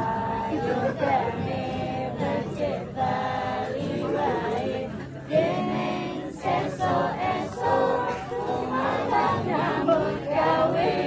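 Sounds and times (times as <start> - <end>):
group of people singing: 0.0 - 11.0.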